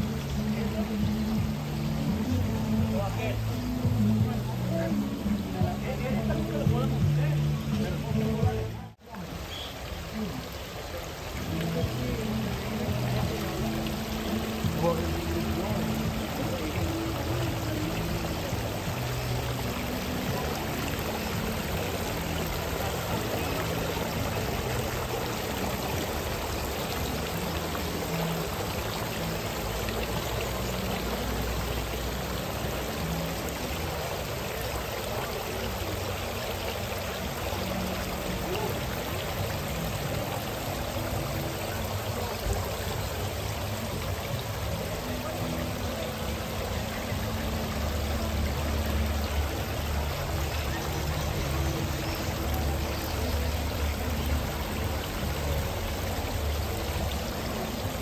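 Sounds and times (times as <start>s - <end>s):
crowd background noise: 0.0s - 58.0s.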